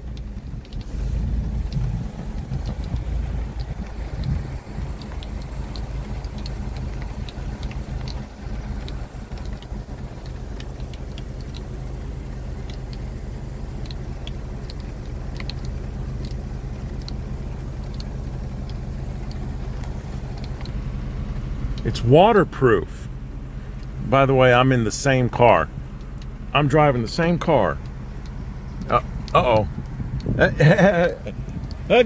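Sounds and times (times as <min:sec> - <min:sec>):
car engine idling: 0:00.0 - 0:32.0
raindrops ticking on car: 0:00.0 - 0:32.0.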